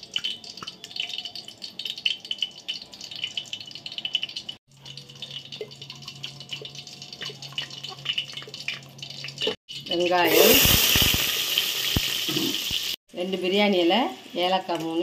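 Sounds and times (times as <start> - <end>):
ghee sizzling in a pot: 0.0 - 15.0.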